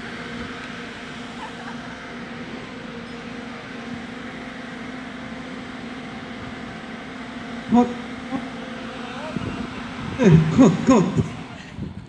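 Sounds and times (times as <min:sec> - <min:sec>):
mechanical hum: 0:00.0 - 0:12.0
rushing noise: 0:02.0 - 0:12.0.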